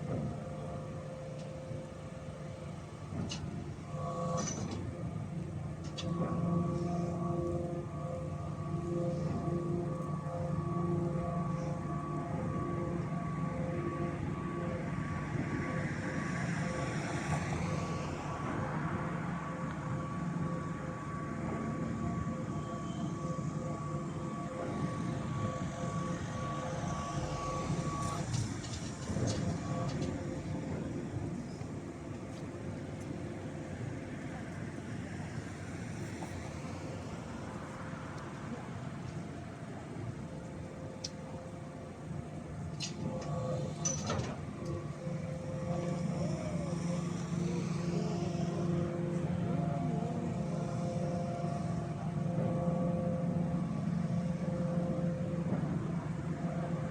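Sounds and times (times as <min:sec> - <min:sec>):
heavy machinery engine rumbling: 0:00.0 - 0:56.9
steady high tone: 0:05.2 - 0:56.9.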